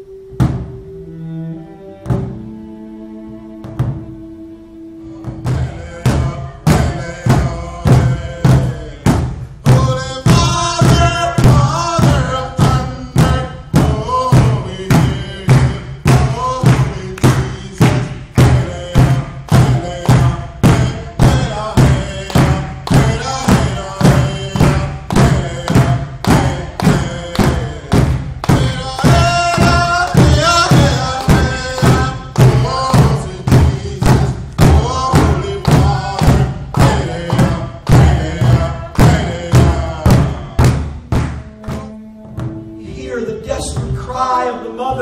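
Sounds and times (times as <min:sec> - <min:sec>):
large drum beaten in unison: 0:00.3 - 0:01.0, 0:02.0 - 0:02.6, 0:03.6 - 0:04.2, 0:05.1 - 0:45.0
voices singing: 0:04.9 - 0:45.0.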